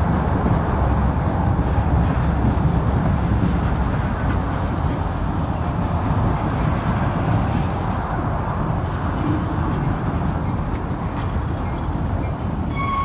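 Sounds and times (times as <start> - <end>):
railroad flatcars rolling past: 0.0 - 13.0
wind buffeting microphone: 0.0 - 13.0.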